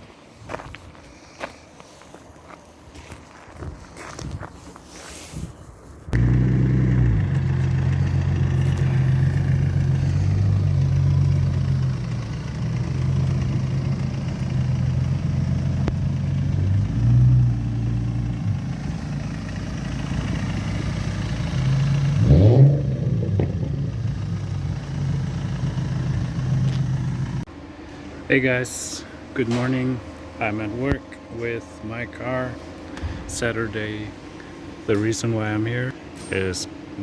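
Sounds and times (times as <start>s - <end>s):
diesel car engine running: 6.2s - 37.0s.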